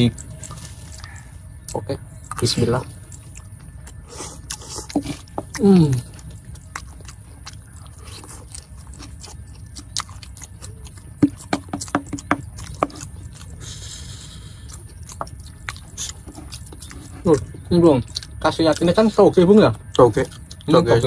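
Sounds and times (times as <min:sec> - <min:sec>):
chewing: 0:00.0 - 0:21.0
mouth sounds: 0:00.0 - 0:21.0.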